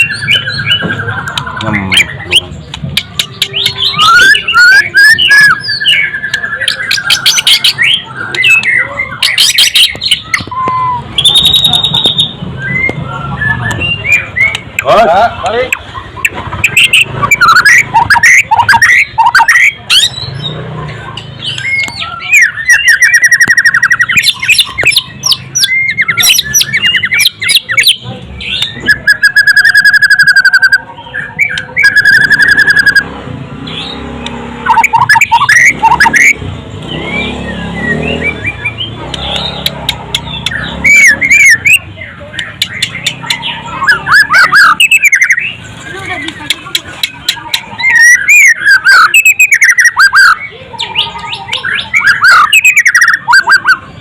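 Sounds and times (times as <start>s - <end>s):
bird singing whistles and trills: 0.0s - 14.9s, 15.8s - 20.6s, 21.4s - 34.0s, 34.6s - 46.1s, 46.7s - 54.0s.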